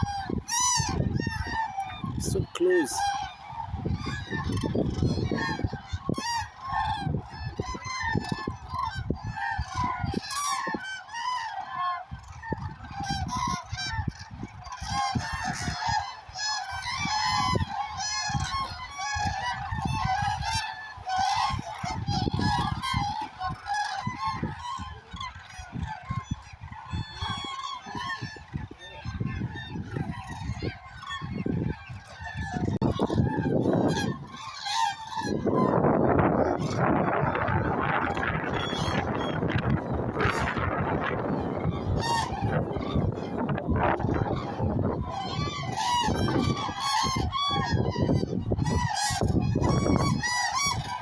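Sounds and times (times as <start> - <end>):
flock of cranes trumpeting: 0.0 - 51.0.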